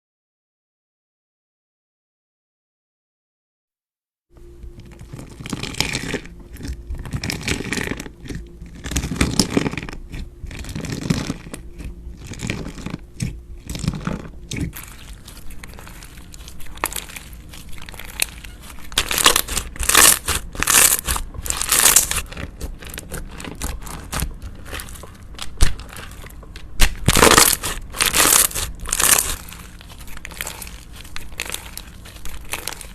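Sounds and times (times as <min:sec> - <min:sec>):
slime squelching and crackling: 0:04.6 - 0:32.9.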